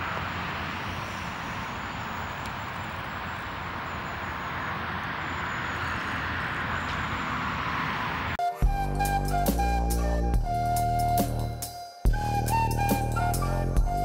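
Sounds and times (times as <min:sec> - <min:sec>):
rushing outdoor background noise: 0:00.0 - 0:14.0.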